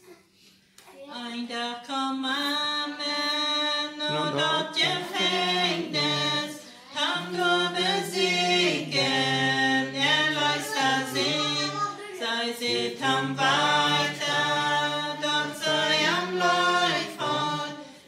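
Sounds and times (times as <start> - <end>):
unaccompanied voices singing in harmony: 1.2 - 18.0.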